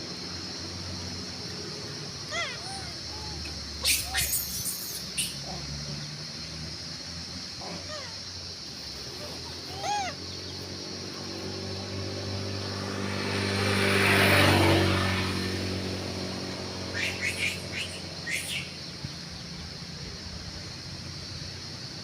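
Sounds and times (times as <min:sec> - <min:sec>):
motor vehicle passing: 0:00.0 - 0:21.8.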